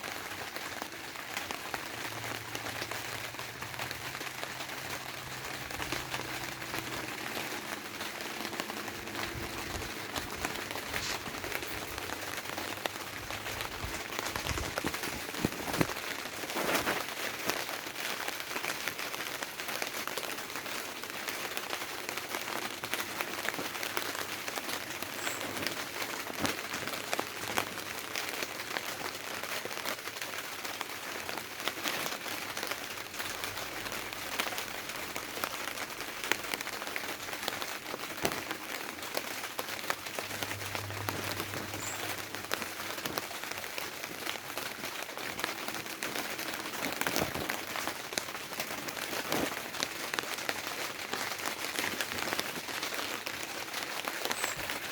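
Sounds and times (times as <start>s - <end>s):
rain on a tarpaulin: 0.0s - 54.9s.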